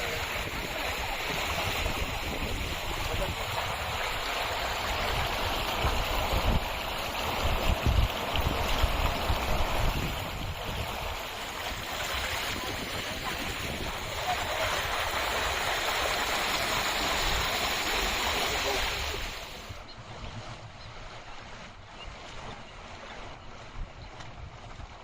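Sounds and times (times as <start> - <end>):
flowing water rushing: 0.0 - 25.0
wind buffeting microphone: 0.0 - 25.0.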